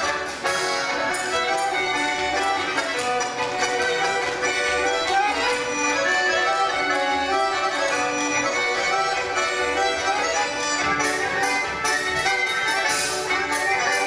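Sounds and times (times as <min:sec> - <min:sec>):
double bass: 0:00.0 - 0:14.0
folk band playing dance music: 0:00.0 - 0:14.0.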